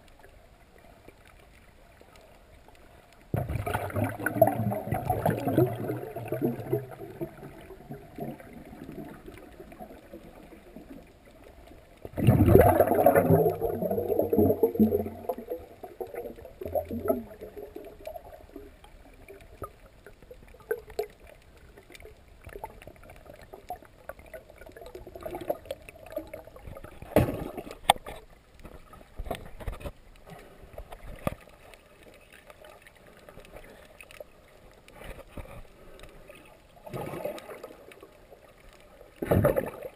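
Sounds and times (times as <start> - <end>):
muffled underwater water sloshing: 0.0 - 39.9
rush of water: 0.8 - 39.9.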